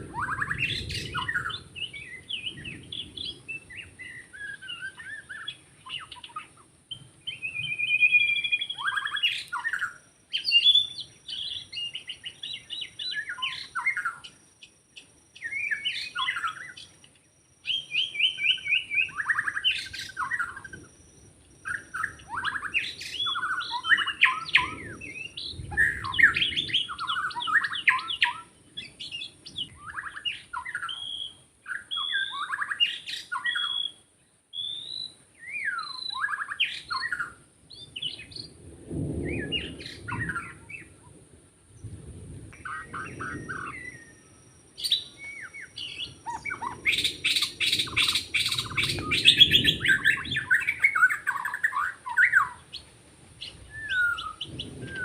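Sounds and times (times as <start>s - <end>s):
bird singing whistled phrases: 0.1s - 20.8s, 21.6s - 38.5s, 42.6s - 52.8s, 53.4s - 55.0s.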